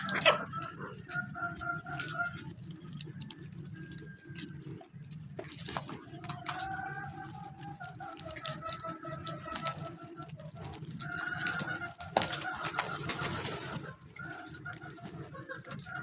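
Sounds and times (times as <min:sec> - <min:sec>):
birds calling: 0:00.0 - 0:16.0
light tapping and pattering: 0:00.0 - 0:16.0.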